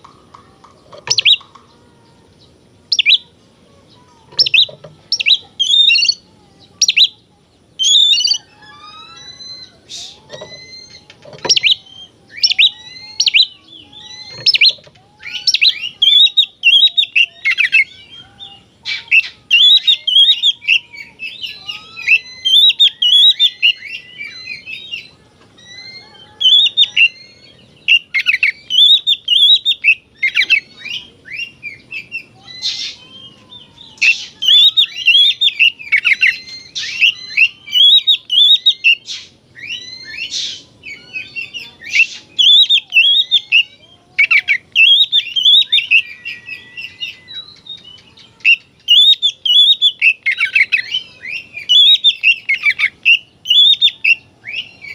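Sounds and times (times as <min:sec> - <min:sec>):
bird singing whistles and chirps: 0:00.8 - 0:01.5, 0:02.4 - 0:03.3, 0:04.3 - 0:07.2, 0:07.8 - 0:54.9.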